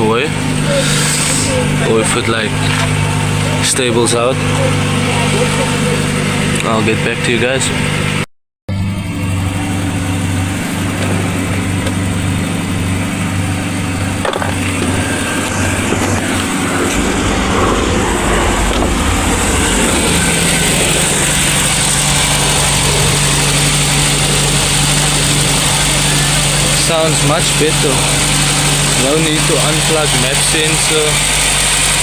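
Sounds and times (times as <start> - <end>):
deeper hum: 0.0 - 32.0
petrol engine idling: 0.0 - 32.0.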